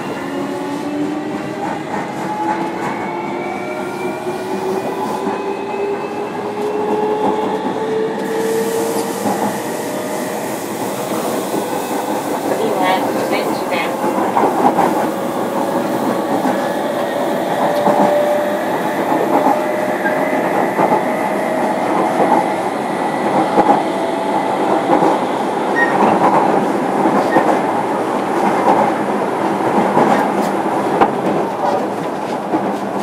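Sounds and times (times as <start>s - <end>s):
train wheels rolling on rail: 0.0s - 33.0s.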